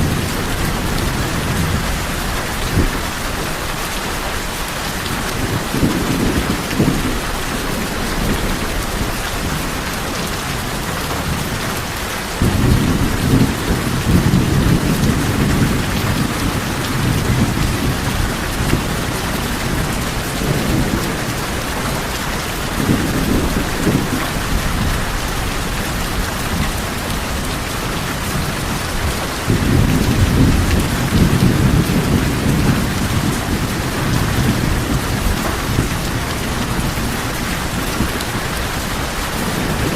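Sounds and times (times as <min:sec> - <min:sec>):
rain on tin roofs: 0:00.0 - 0:39.9
low rolls of thunder: 0:05.2 - 0:10.4, 0:12.4 - 0:39.9.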